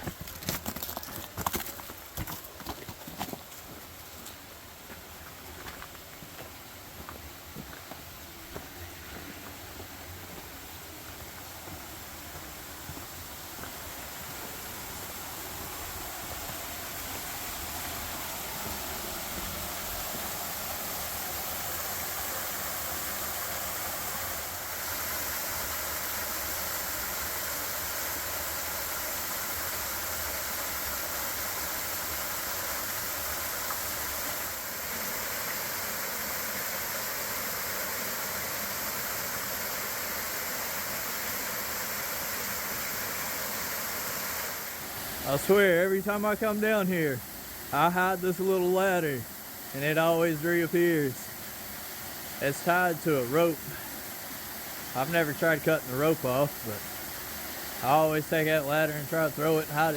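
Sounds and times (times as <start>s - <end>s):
waterfall rushing: 8.2s - 59.9s.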